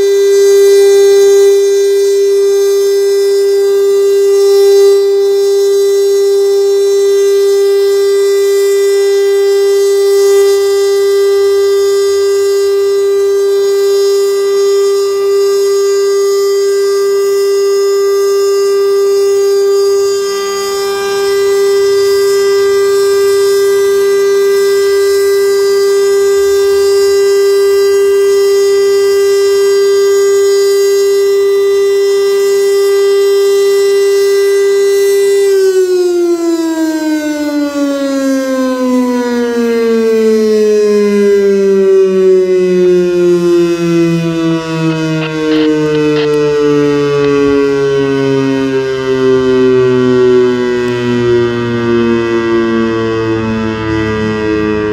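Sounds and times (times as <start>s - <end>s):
warning siren steady tone: 0.0s - 54.9s.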